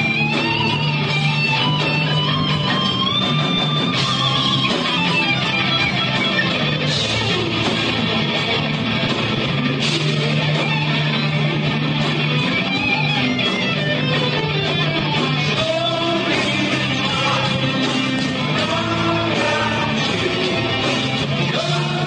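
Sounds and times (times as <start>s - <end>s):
electric guitar bending notes: 0.0s - 22.0s
heavy metal band playing live: 0.0s - 22.0s.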